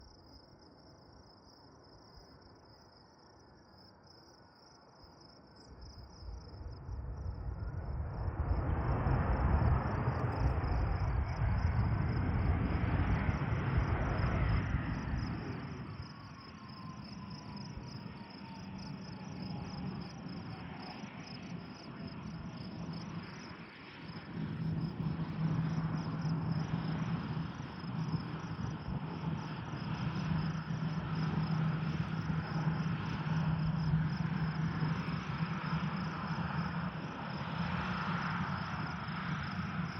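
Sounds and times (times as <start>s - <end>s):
crickets chirping: 0.0s - 39.9s
jet engines rumbling past: 6.2s - 39.9s.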